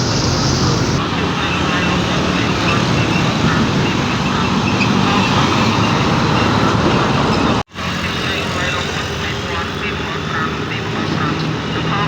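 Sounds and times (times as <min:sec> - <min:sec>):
heavy truck engine rumble: 0:00.0 - 0:12.0
tyre and wind roar: 0:00.0 - 0:12.0.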